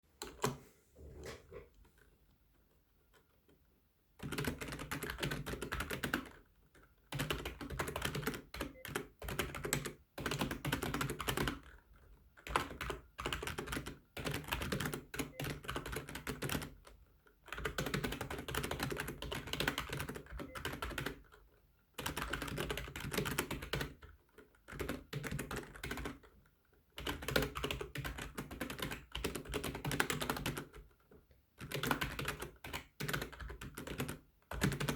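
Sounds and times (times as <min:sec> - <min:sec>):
computer keyboard typing: 0:00.2 - 0:00.6, 0:04.2 - 0:34.9.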